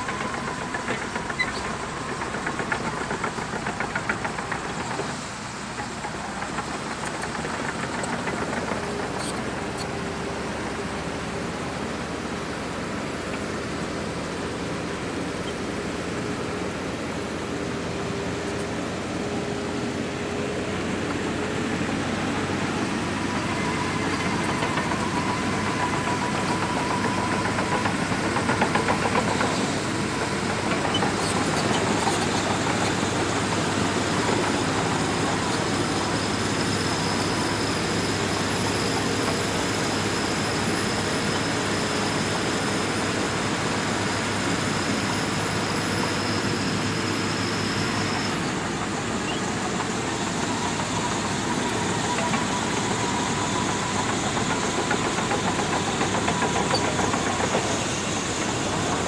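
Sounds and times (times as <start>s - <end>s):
bulldozer engine and tracks: 0.0s - 59.0s.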